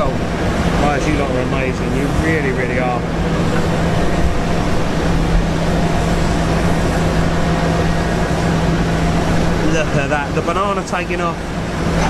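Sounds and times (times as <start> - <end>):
jet engine drone: 0.0 - 12.0.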